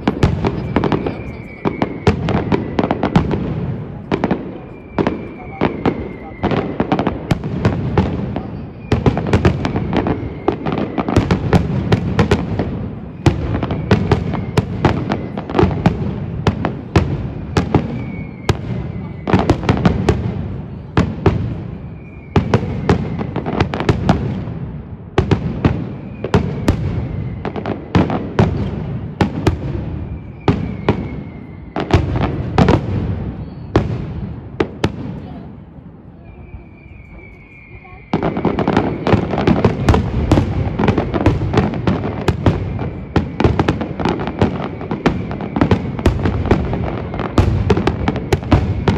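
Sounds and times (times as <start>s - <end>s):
fireworks bangs: 0.0s - 48.9s
low fireworks rumble: 0.0s - 48.9s.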